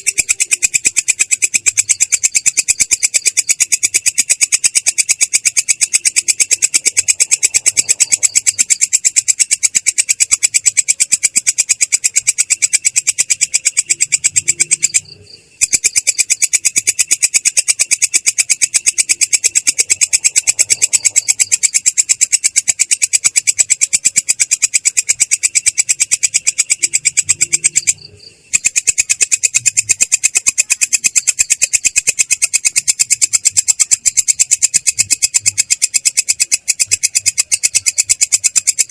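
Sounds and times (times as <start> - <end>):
katydid rasping call: 0.0 - 38.9.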